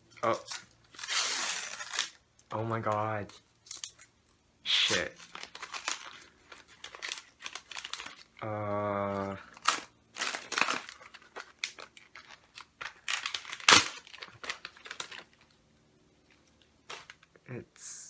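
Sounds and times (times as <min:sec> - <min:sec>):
wrapping paper crinkling and tearing: 0:00.2 - 0:04.0, 0:04.7 - 0:15.6.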